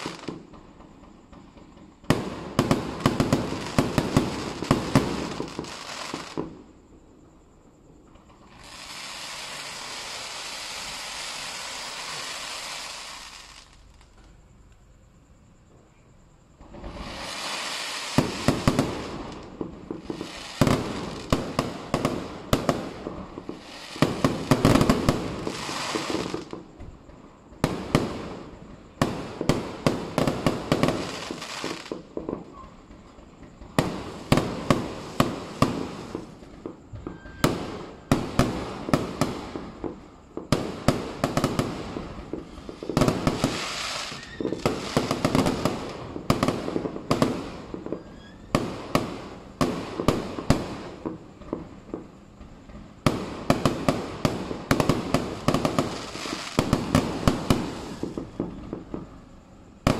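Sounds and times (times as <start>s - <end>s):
fireworks bursting with sharp bangs: 0.0s - 14.6s, 16.4s - 59.9s.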